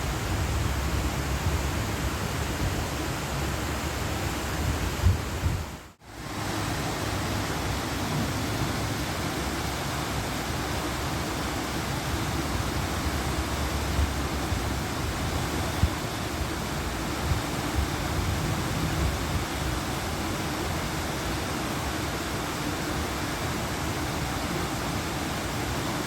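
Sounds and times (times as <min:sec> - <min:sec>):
waterfall splashing: 0:00.0 - 0:26.0.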